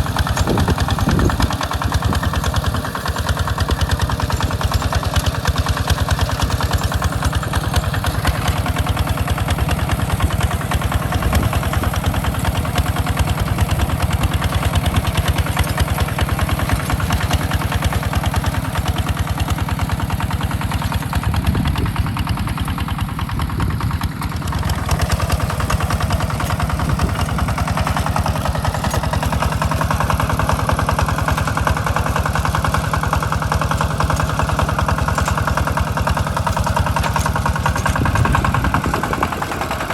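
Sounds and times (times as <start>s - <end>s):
walking tractor engine chugging: 0.0s - 39.9s.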